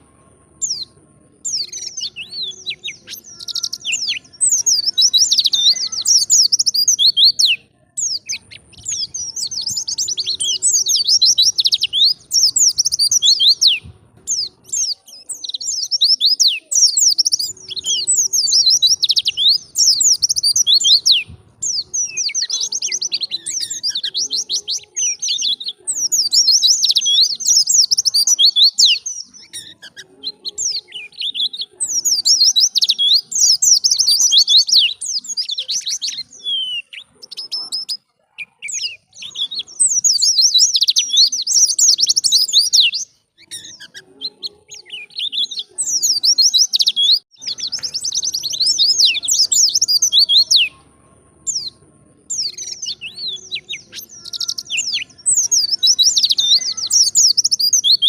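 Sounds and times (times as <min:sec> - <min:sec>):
bird twittering: 0:00.6 - 0:50.8.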